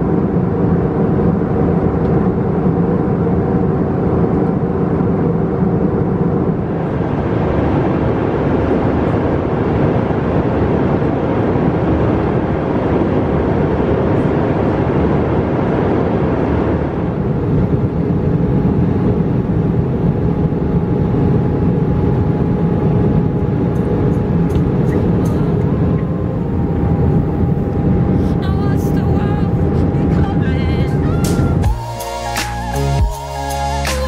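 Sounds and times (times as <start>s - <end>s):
airplane cabin engine hum: 0.0s - 34.0s.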